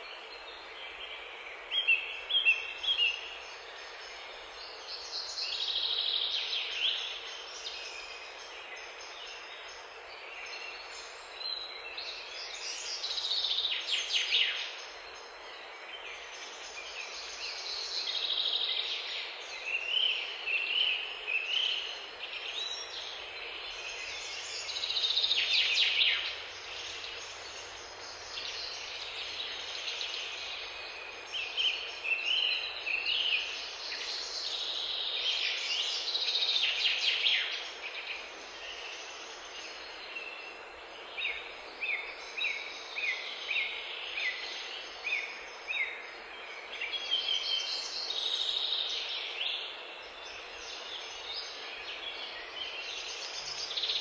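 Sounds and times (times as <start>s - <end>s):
songbirds chirping and trilling: 0.0s - 54.0s
steady background hiss: 0.0s - 54.0s.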